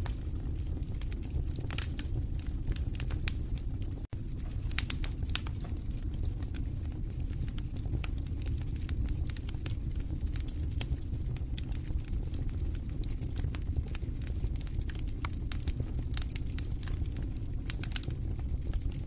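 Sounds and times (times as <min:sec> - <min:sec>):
low rumble of flames: 0:00.0 - 0:19.0
wood fire crackling: 0:00.0 - 0:19.0.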